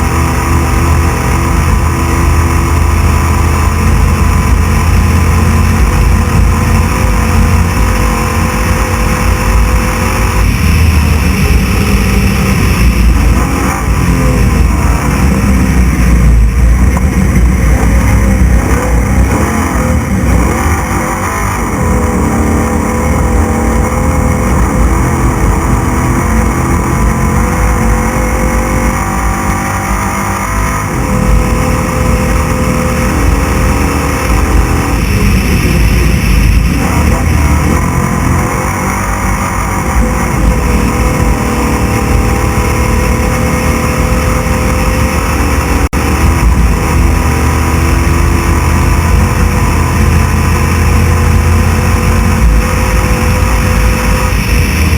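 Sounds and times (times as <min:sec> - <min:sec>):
race truck engine running flat out: 0:00.0 - 0:54.9
road and wind noise: 0:00.0 - 0:54.9.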